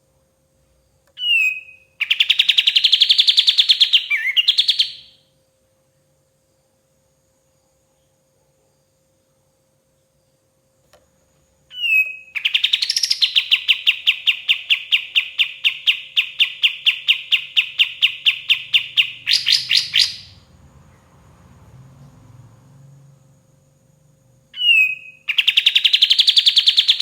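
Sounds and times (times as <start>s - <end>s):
songbird chirping: 0.6s - 5.2s, 7.8s - 27.0s.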